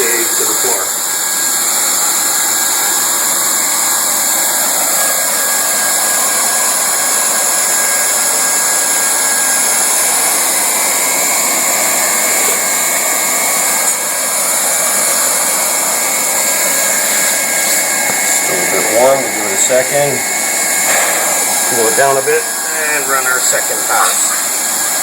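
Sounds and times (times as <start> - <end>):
hot-air welding gun blowing: 0.0 - 25.0.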